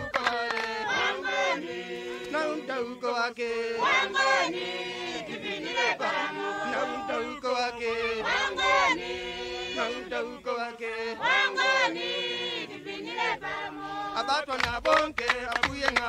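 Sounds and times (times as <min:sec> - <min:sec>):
group of voices chanting: 0:00.0 - 0:16.0.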